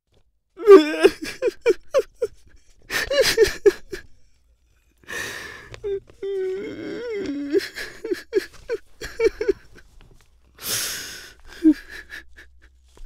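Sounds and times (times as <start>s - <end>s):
man sobbing: 0.6s - 4.2s, 5.1s - 9.9s, 10.6s - 13.0s.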